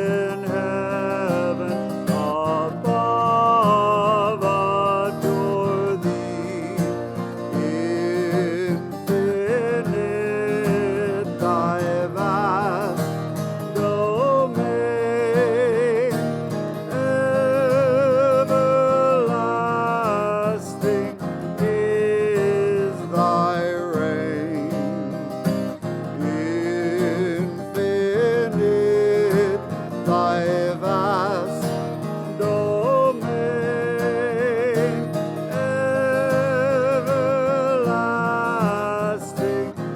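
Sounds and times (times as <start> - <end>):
acoustic guitar accompaniment: 0.0 - 39.9
person singing with vibrato: 0.0 - 39.9.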